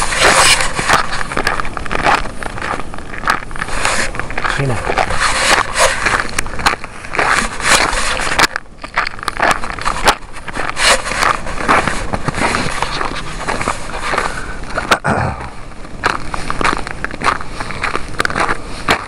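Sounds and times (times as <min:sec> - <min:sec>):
footsteps crunching through snow: 0:00.0 - 0:19.0.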